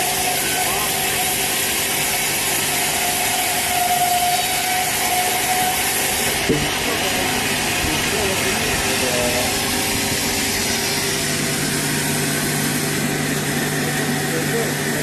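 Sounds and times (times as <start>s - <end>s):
sawmill saw cutting log: 0.0s - 15.0s.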